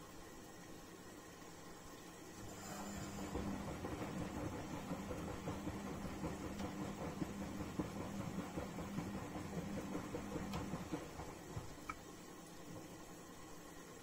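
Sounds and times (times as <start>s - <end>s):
washing machine drum motor humming: 0.0s - 14.0s.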